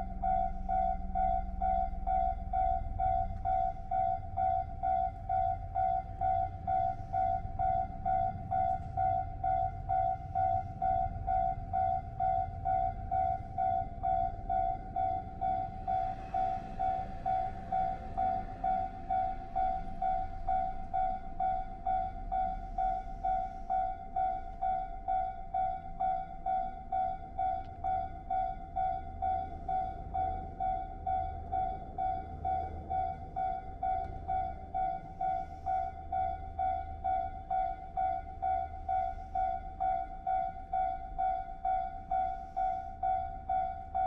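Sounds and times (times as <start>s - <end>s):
level crossing warning bell: 0.0s - 44.0s
low rumble: 0.0s - 44.0s.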